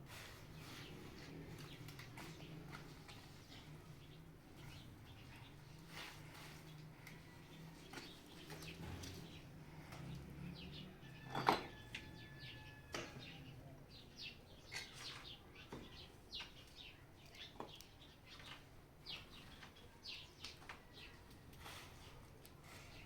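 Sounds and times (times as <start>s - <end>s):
birds chirping: 0.2s - 23.0s.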